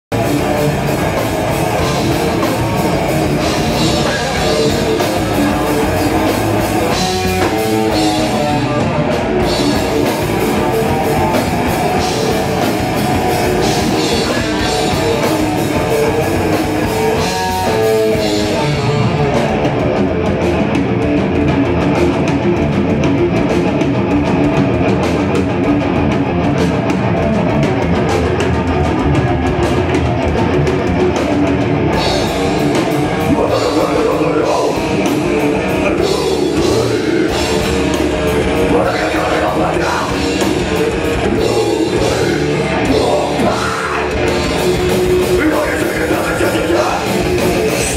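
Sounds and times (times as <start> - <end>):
distorted electric guitars: 0.0 - 47.9
drum kit with cymbals: 0.1 - 47.9.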